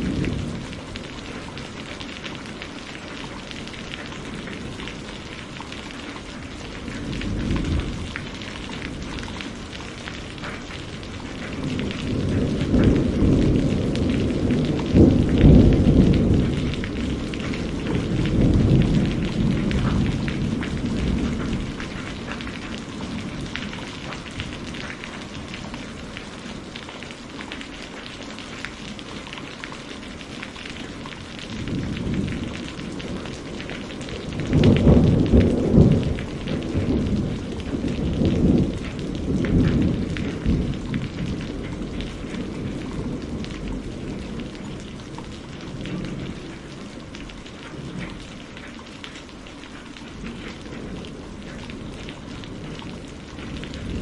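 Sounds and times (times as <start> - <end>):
rolling thunder: 0.0 - 26.8, 27.9 - 48.2, 50.1 - 54.0
steady rainfall: 0.0 - 54.0.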